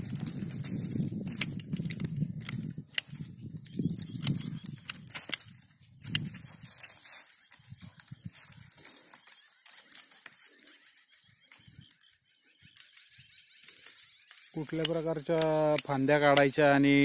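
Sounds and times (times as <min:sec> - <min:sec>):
pruning shears snipping: 0:00.0 - 0:17.0
twigs and dry leaves rustling: 0:00.0 - 0:17.0.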